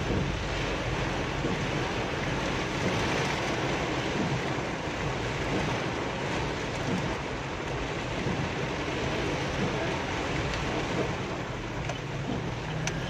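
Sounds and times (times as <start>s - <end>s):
car running noise: 0.0s - 13.0s
heavy rain on car roof: 0.0s - 13.0s.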